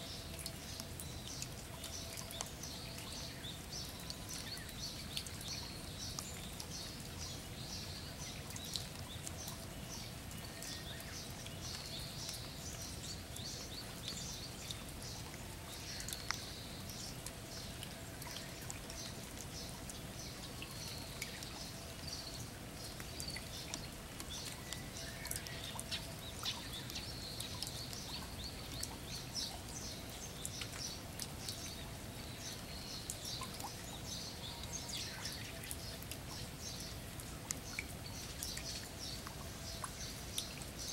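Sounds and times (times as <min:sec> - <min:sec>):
light rain dripping on water: 0:00.0 - 0:40.9.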